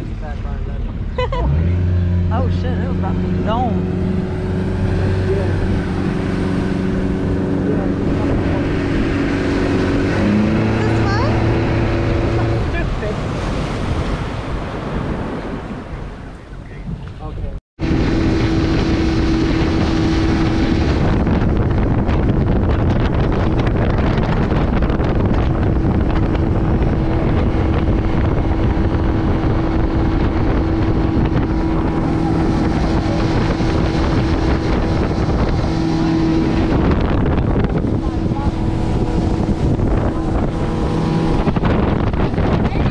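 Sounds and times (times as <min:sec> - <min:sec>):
motorboat engine humming: 0:00.0 - 0:42.9
wind on microphone: 0:00.0 - 0:42.9
water spraying off hull: 0:02.2 - 0:17.0, 0:17.8 - 0:42.9.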